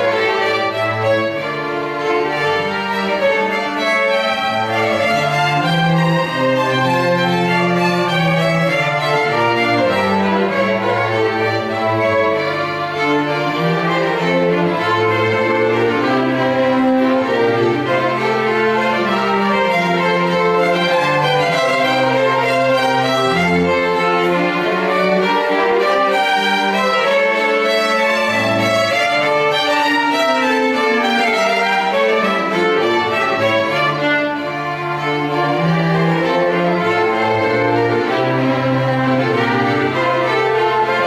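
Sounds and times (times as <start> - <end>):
low cello line: 0.0 - 41.0
violins playing long bowed notes: 0.0 - 41.0.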